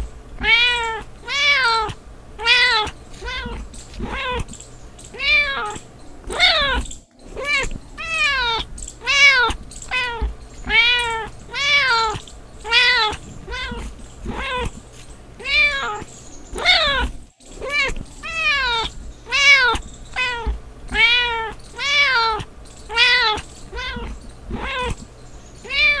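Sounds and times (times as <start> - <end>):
cat meowing: 0.4 - 14.8, 15.4 - 26.0.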